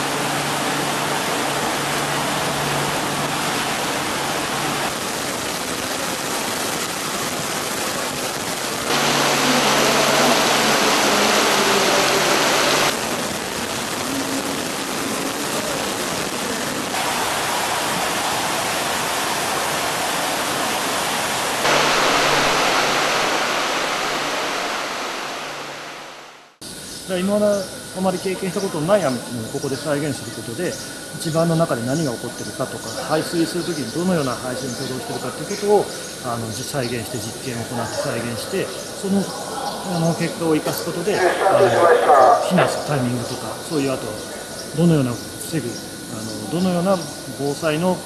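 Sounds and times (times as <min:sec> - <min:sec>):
heavy rain falling on grass: 0:00.0 - 0:26.6, 0:27.3 - 0:37.7, 0:39.8 - 0:48.0.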